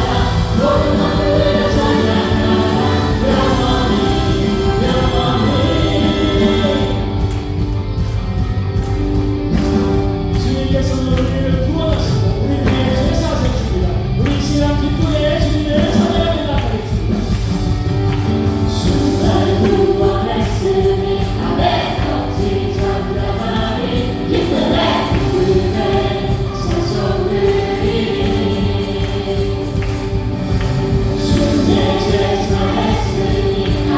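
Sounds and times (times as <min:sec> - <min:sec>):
congregation singing: 0:00.0 - 0:33.9
praise band playing: 0:00.0 - 0:33.9
steady drum beat: 0:00.0 - 0:33.9.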